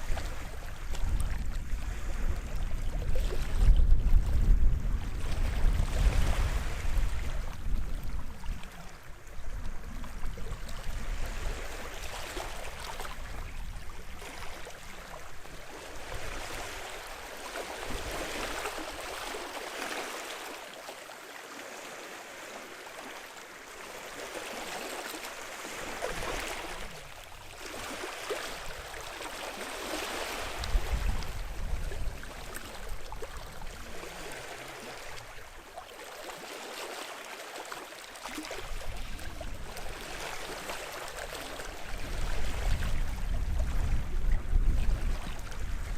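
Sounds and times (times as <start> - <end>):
small waves lapping on shore: 0.0 - 45.9.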